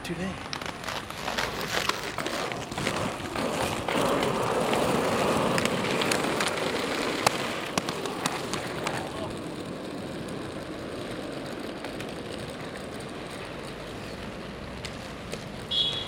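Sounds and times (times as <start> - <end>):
skate wheels rolling on concrete: 0.0 - 16.0.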